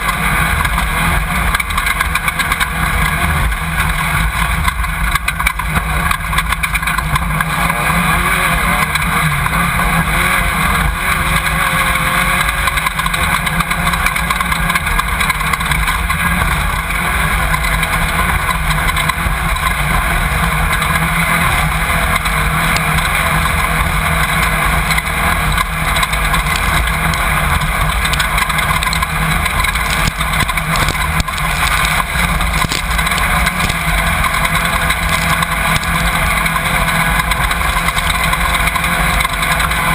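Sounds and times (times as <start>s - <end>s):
constant rattling: 0.0s - 39.9s
race car engine running hard: 0.0s - 39.9s.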